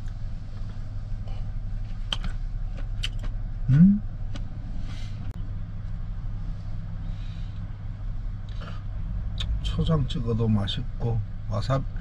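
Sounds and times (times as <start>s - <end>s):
low rumble inside van: 0.0s - 12.0s.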